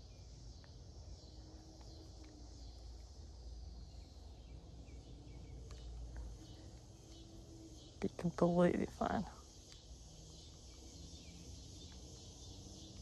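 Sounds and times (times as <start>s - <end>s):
insects hissing: 0.0s - 13.0s.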